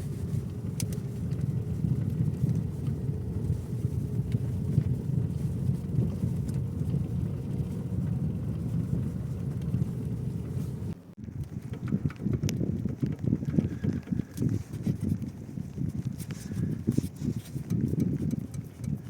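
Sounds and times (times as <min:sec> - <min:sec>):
car driving on road: 0:00.0 - 0:19.0.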